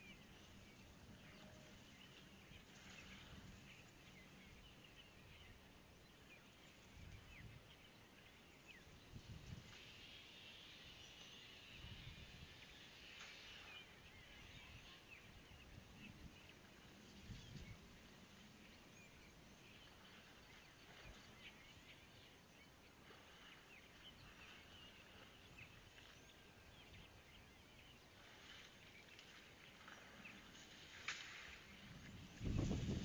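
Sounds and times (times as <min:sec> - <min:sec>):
distant birds chirping: 0:00.0 - 0:33.0.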